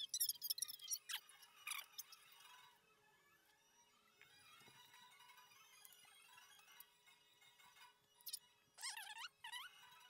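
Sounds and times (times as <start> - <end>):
quiet instrumental music: 0.0 - 10.0.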